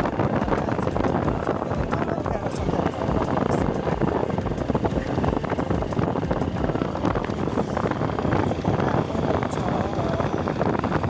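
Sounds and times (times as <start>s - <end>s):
motorcycle engine rumbling: 0.0s - 11.0s
wind buffeting microphone: 0.0s - 11.0s.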